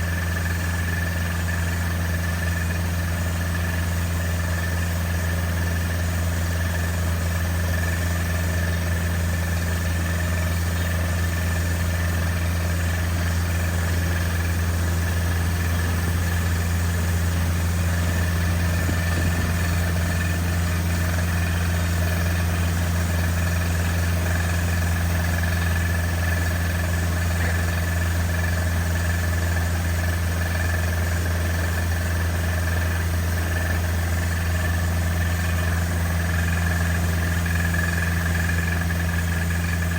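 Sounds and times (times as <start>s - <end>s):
engine running with high whine: 0.0s - 39.9s.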